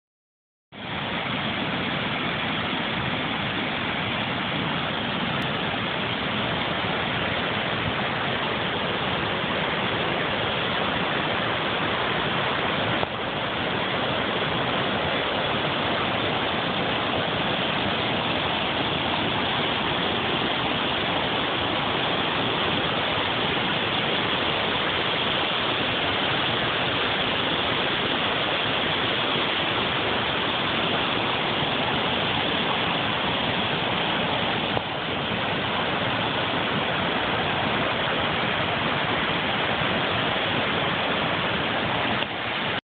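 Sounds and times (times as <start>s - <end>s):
floodwater rushing: 0.8s - 42.8s.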